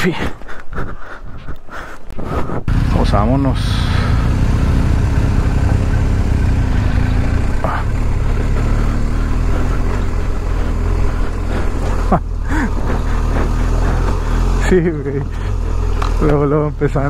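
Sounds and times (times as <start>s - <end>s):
motorcycle engine rumbling: 0.1s - 17.0s.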